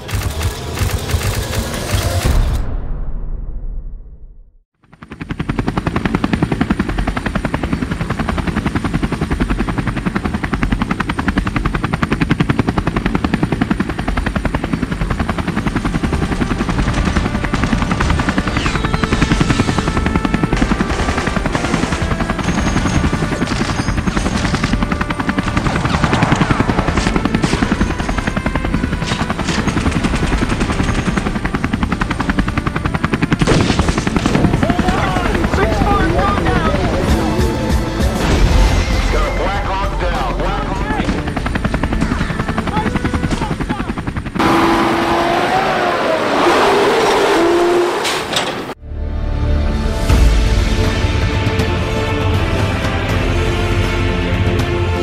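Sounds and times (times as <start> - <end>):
helicopter rotor chopping: 0.0 - 2.6, 4.8 - 48.8.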